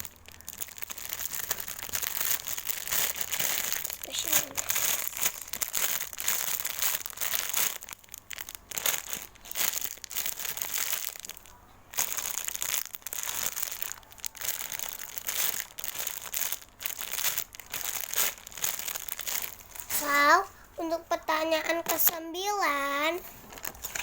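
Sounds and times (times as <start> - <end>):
plastic crinkling and rustling: 0.0 - 24.0.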